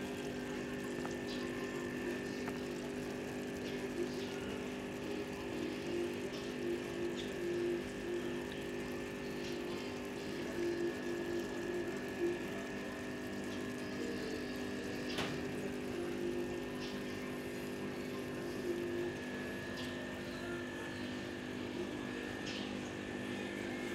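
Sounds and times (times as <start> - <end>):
air stones bubbling: 0.0 - 20.3
air pump humming: 0.0 - 23.9.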